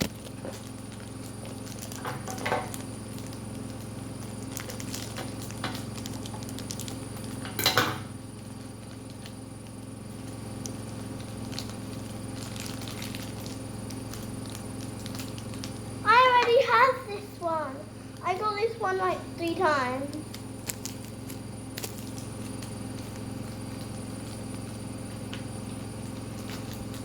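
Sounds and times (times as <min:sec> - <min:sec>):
plastic rustling crackle: 0:00.0 - 0:07.4, 0:08.4 - 0:17.5, 0:18.1 - 0:27.0
plastic packs clicking and crinkling: 0:00.0 - 0:07.7, 0:08.6 - 0:16.6, 0:20.1 - 0:27.0.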